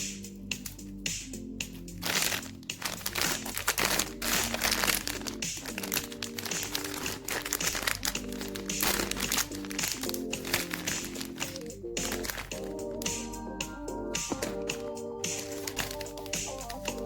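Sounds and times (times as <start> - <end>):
background music: 0.0 - 17.0
plastic wrapper crinkling: 2.0 - 13.2, 14.3 - 17.0.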